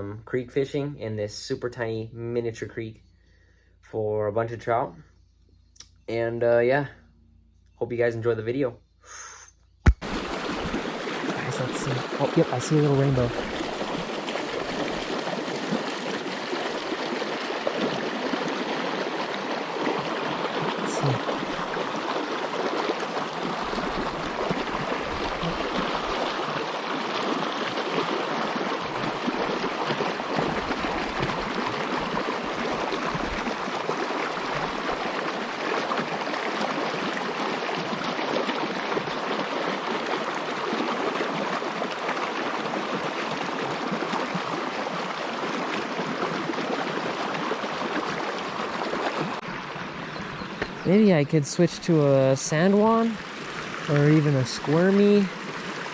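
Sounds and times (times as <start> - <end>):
creek babbling: 9.9 - 55.9.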